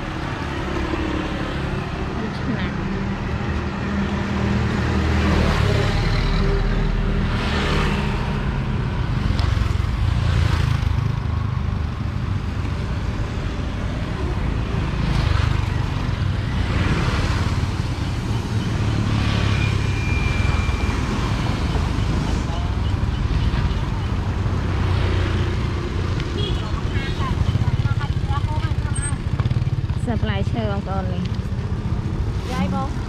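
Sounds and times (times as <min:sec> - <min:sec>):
motorbikes passing: 0:00.0 - 0:33.0.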